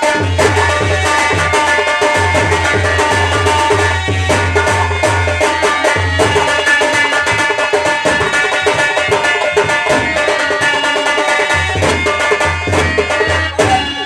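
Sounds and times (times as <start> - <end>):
rapid drum strokes: 0.0 - 14.0.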